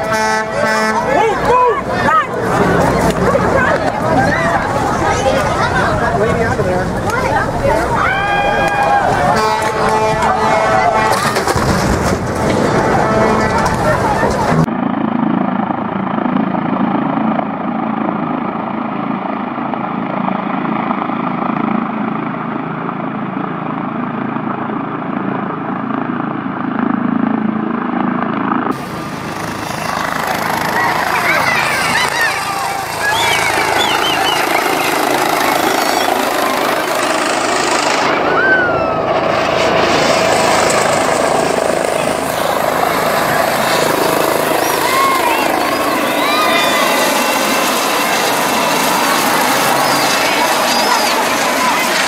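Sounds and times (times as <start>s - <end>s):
aircraft rotors and engines droning: 0.0s - 52.0s.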